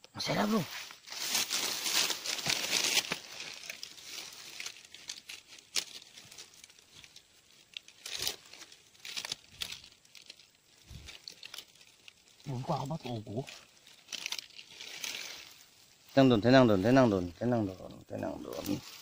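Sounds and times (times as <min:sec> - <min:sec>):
rustling and crackling: 0:00.2 - 0:19.0.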